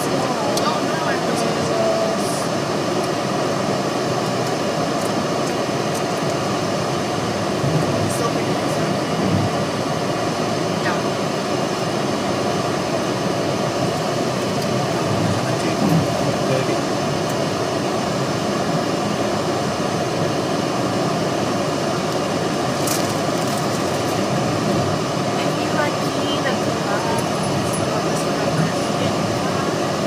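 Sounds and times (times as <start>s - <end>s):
road and engine noise in car: 0.0s - 30.0s.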